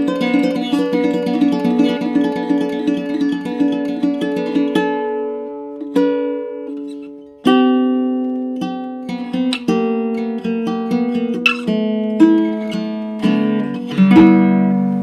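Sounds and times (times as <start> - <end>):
ukulele picking and chords: 0.0 - 15.0.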